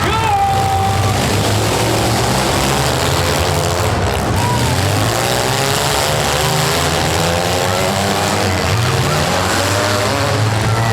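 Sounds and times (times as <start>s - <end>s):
car engines revving: 0.0s - 10.9s.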